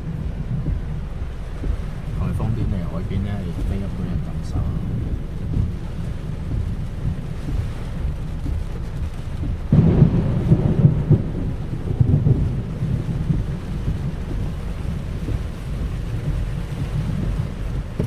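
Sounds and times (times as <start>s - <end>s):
heavy rain: 0.0s - 18.0s
strong wind: 0.0s - 18.0s.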